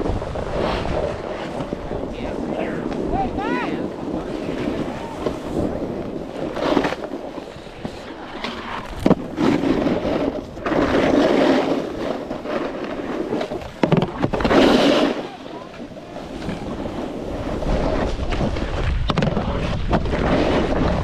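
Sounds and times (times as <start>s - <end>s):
snowboard scraping over snow: 0.0s - 21.0s.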